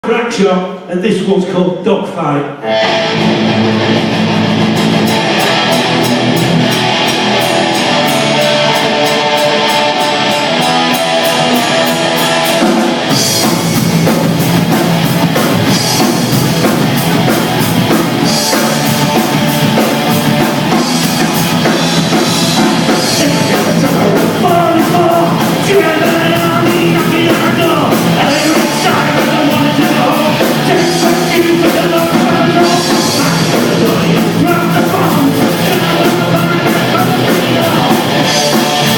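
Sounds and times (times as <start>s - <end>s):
rock band with electric guitars: 2.6s - 38.9s
drum kit with cymbal crashes: 4.1s - 38.9s.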